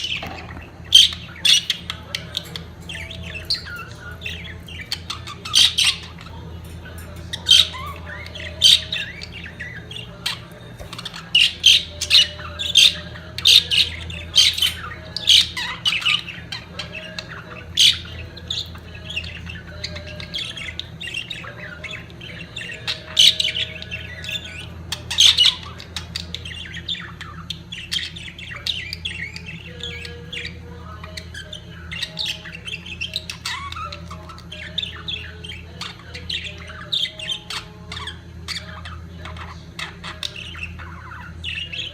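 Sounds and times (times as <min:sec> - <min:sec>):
budgerigars chattering: 0:00.0 - 0:41.9
steady low hum: 0:00.0 - 0:41.9.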